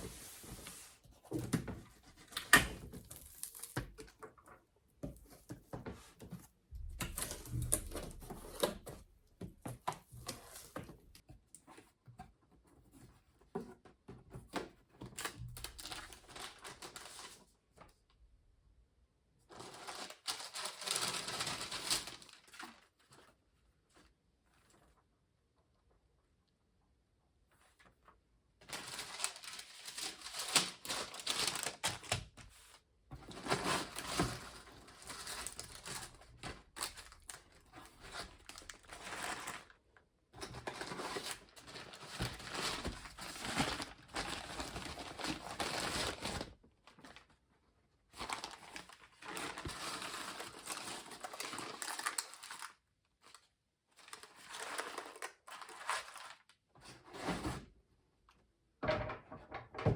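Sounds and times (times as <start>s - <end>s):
crinkling and rustling: 0.0s - 18.2s, 19.5s - 25.1s, 27.5s - 57.7s.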